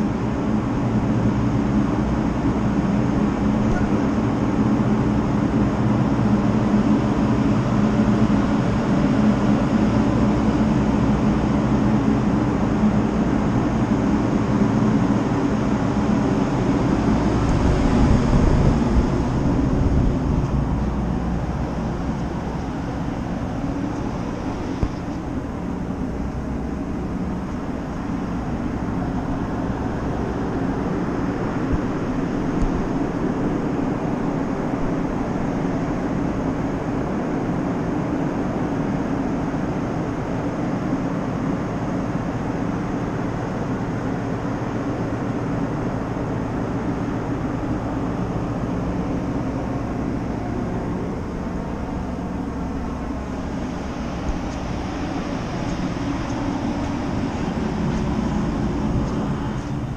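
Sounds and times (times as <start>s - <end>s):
ship machinery rumbling: 0.0s - 59.9s
wind buffeting microphone: 0.0s - 59.9s.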